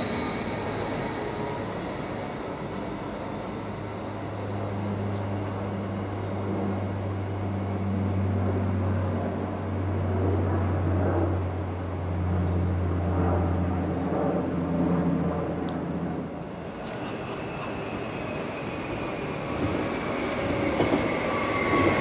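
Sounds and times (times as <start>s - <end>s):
train humming: 0.0s - 10.0s, 13.6s - 22.0s.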